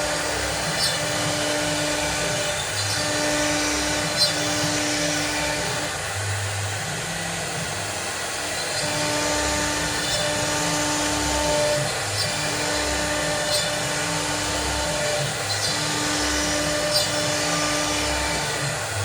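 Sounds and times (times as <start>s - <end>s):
cnc machine cutting: 0.0s - 19.0s
motor whine: 0.0s - 19.0s.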